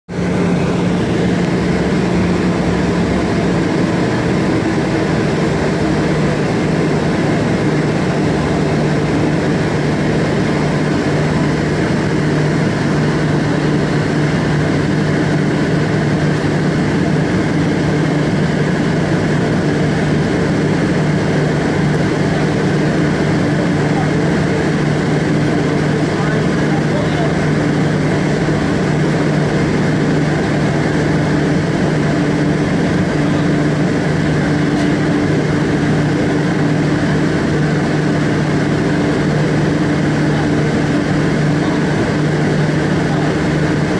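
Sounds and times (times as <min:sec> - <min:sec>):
jet engines humming: 0:00.0 - 0:43.9
constant rush of noise: 0:00.1 - 0:43.9.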